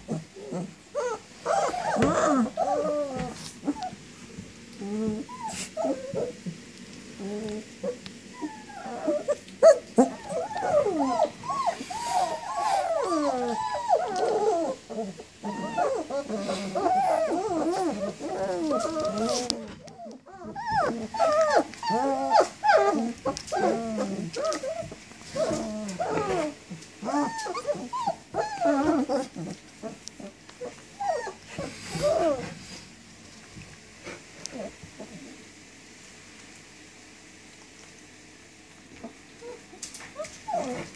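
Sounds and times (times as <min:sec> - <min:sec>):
puppies whining and whimpering: 0:00.0 - 0:04.0, 0:04.7 - 0:06.5, 0:07.1 - 0:32.7, 0:34.5 - 0:35.4, 0:39.0 - 0:40.9.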